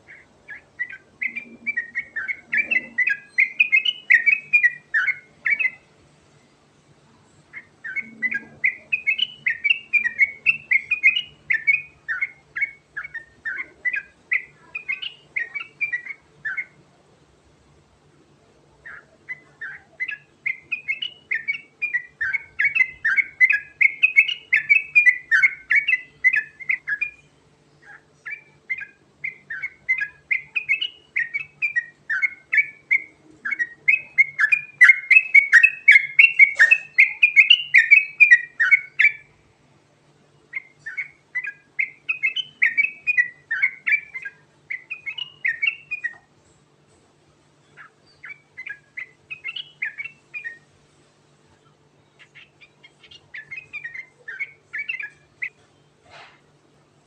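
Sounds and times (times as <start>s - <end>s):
bird singing whistled notes: 0.0s - 5.9s, 7.5s - 16.8s, 18.8s - 39.4s, 40.5s - 46.3s, 47.6s - 50.7s, 52.0s - 56.0s.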